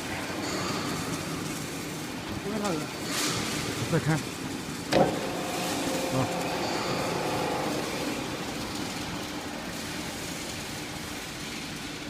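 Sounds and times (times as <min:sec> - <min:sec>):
baling press machine hum: 0:00.0 - 0:12.0.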